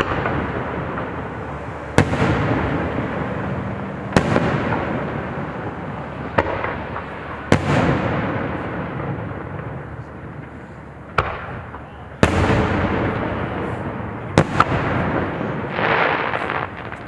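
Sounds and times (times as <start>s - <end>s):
fireworks bangs: 0.0s - 17.0s
fireworks crackling burst: 0.0s - 17.0s.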